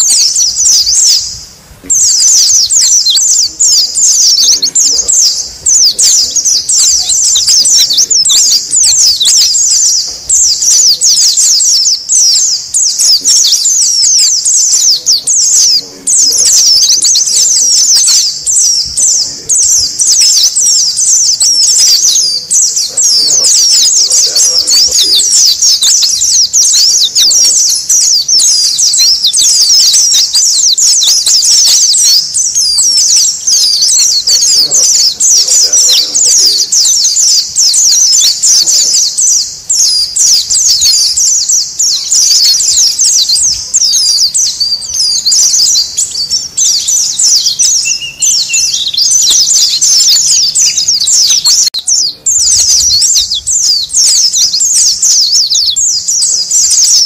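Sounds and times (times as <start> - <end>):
flock of birds chirping: 0.0 - 57.0.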